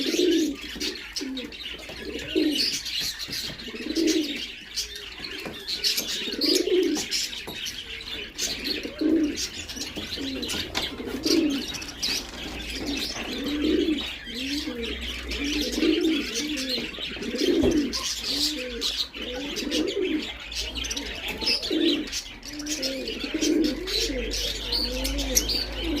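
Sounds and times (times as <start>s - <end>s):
high-pitched bird chirping: 0.0s - 26.0s
pigeons cooing: 0.0s - 26.0s.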